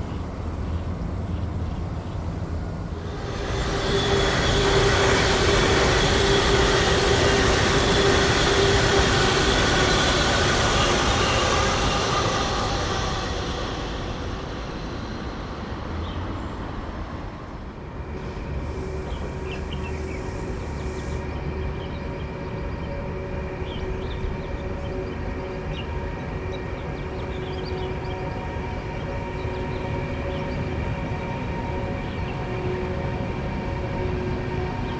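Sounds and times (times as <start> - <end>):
train passing with whine: 0.0 - 34.9.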